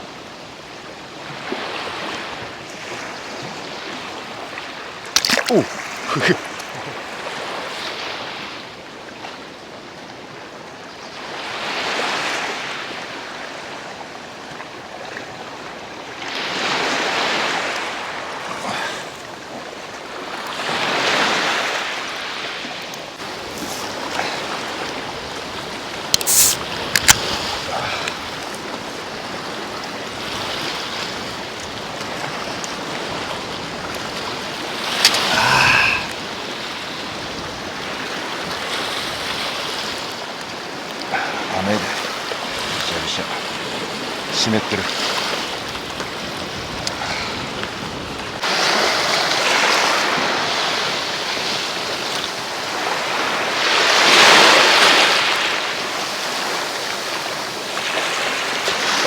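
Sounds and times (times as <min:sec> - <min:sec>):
sea waves washing onto shore: 0:00.0 - 0:09.6, 0:11.2 - 0:59.0.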